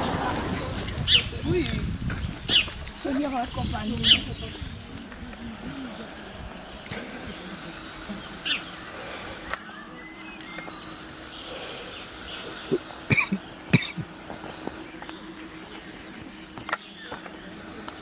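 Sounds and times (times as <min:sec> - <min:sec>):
faint steady hum: 0:00.0 - 0:18.0
bird chirps: 0:02.1 - 0:17.5.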